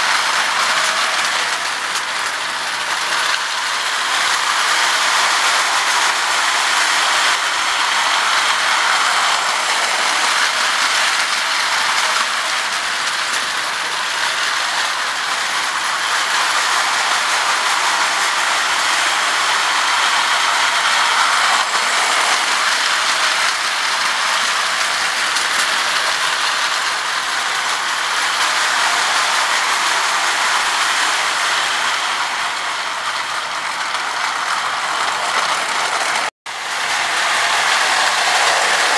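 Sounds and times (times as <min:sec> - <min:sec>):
toy train rattling whir: 0:00.0 - 0:38.9.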